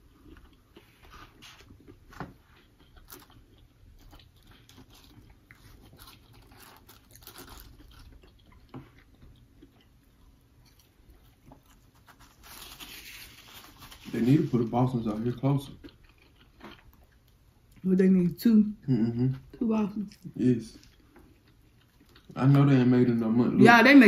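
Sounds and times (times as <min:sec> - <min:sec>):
people chewing and crunching food: 0:00.0 - 0:18.2, 0:18.8 - 0:23.4.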